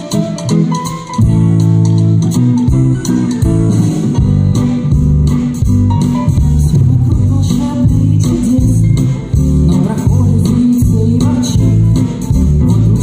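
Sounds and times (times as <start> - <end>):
drums: 0.0 - 13.0
electric bass guitar lines: 0.0 - 13.0
electric guitar: 0.0 - 13.0.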